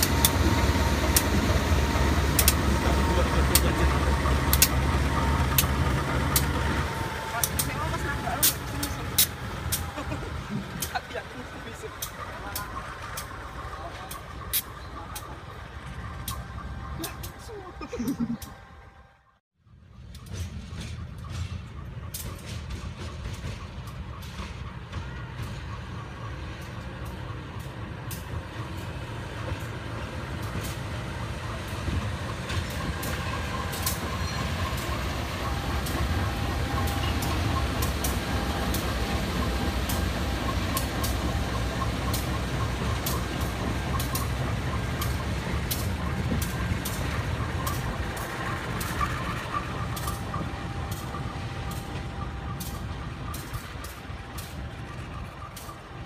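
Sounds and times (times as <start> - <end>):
wheels clanking over rail joints: 0.0 - 19.0, 19.9 - 56.0
diesel locomotive engine rumble: 0.0 - 56.0.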